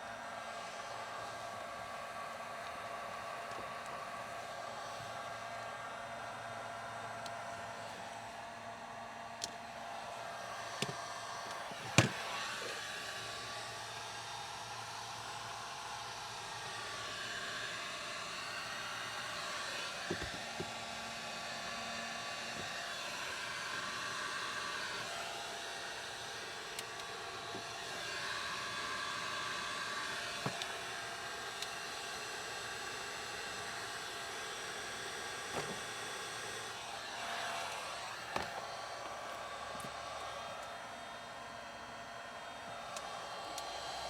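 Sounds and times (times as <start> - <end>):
heat gun blowing: 0.2 - 44.0.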